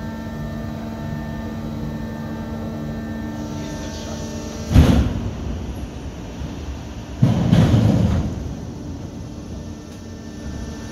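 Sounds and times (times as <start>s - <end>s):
steady machinery hum: 0.0s - 10.9s.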